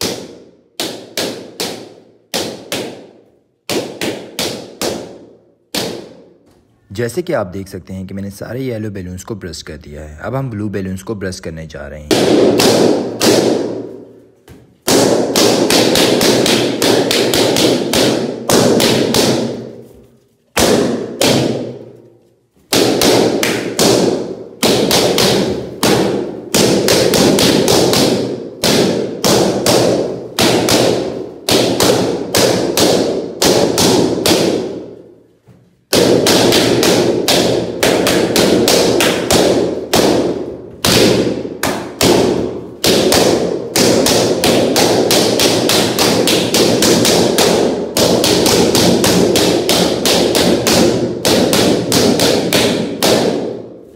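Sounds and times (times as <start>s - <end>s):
balloons popping: 0.0s - 6.7s, 12.0s - 53.9s.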